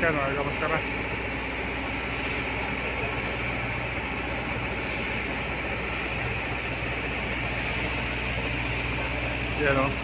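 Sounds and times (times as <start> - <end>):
machinery humming: 0.0 - 10.0.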